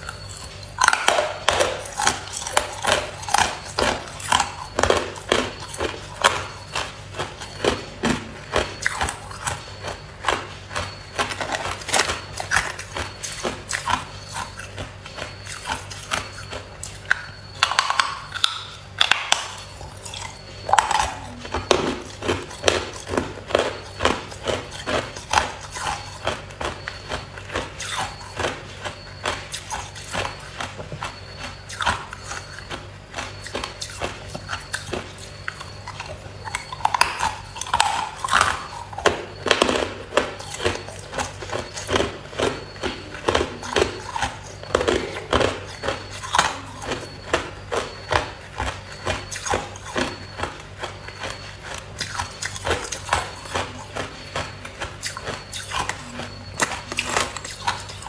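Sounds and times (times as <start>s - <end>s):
ice being chewed crunching: 0.0s - 58.0s.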